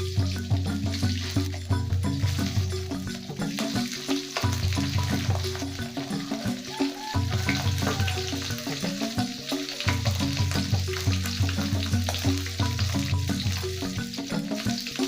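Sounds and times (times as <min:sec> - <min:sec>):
background music: 0:00.0 - 0:15.0
hot oil sizzling in a pan: 0:00.0 - 0:15.0.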